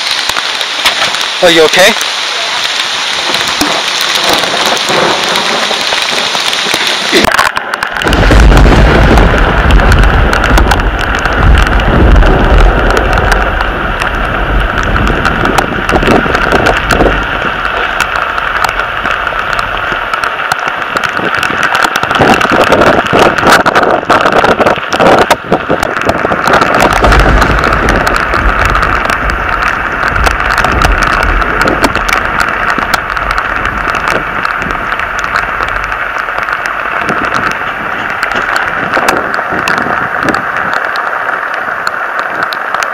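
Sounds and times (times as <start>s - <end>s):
heavy rain pelting: 0.0s - 42.9s
wind rumbling on microphone: 0.0s - 42.9s.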